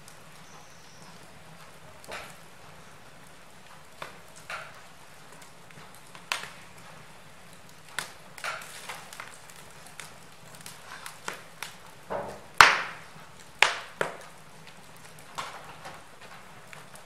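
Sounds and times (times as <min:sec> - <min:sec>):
fire crackling and popping: 0:00.0 - 0:17.0
wood fire hissing: 0:00.0 - 0:17.0.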